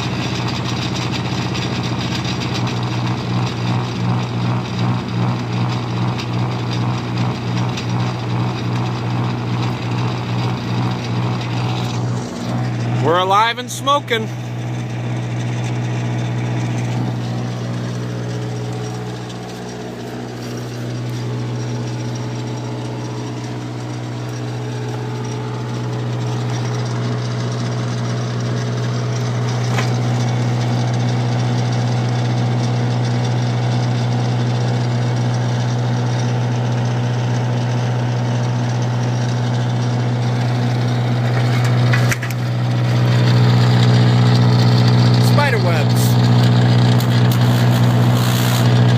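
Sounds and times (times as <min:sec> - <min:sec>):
diesel generator engine running: 0:00.0 - 0:48.9.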